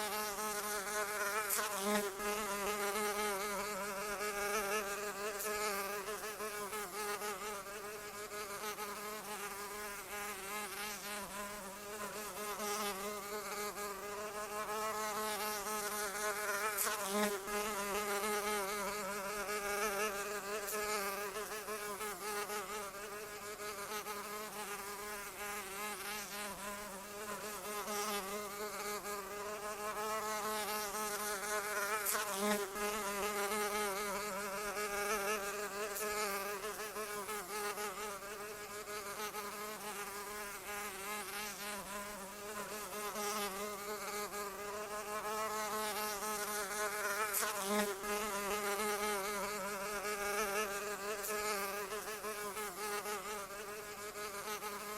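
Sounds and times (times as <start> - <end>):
insect wings buzzing: 0.0 - 54.9.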